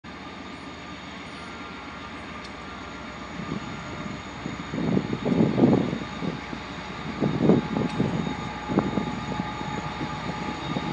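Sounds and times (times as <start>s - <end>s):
distant diesel train rumbling: 0.0s - 10.9s.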